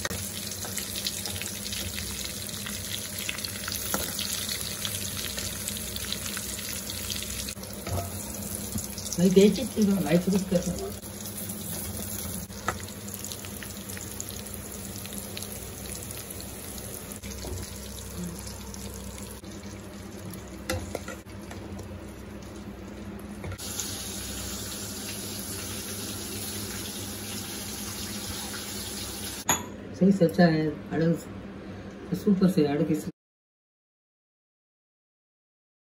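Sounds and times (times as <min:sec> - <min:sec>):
hot oil sizzling: 0:00.0 - 0:29.5.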